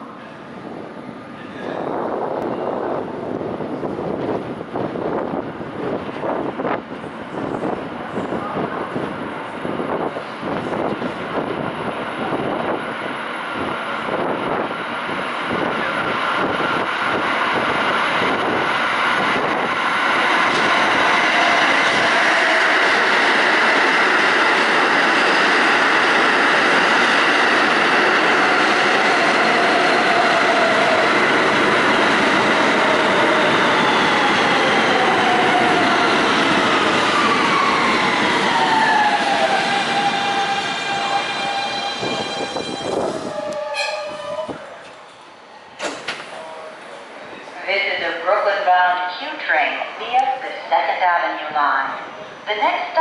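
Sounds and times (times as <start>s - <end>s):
subway train arriving: 0.0s - 53.0s.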